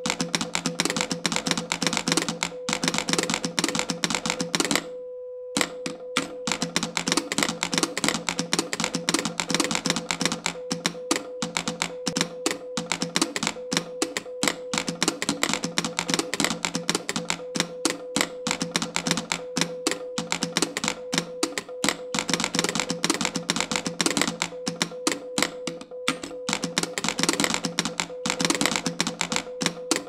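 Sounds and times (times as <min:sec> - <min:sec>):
telegraph keys clicking: 0:00.0 - 0:04.9, 0:05.6 - 0:30.0.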